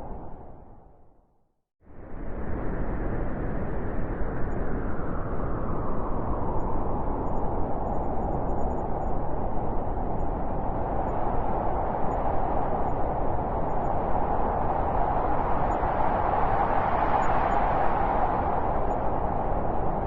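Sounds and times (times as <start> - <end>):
blizzard wind howling: 0.0 - 1.2, 1.8 - 20.0.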